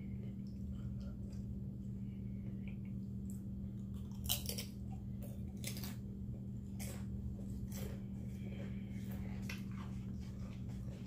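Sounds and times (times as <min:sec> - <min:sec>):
crunchy chewing: 0:00.0 - 0:11.0
steady low hum: 0:00.0 - 0:11.0.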